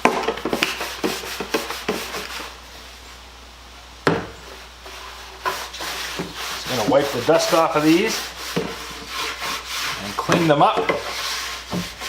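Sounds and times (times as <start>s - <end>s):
wood rubbing and scraping: 0.0s - 3.0s, 4.4s - 12.0s.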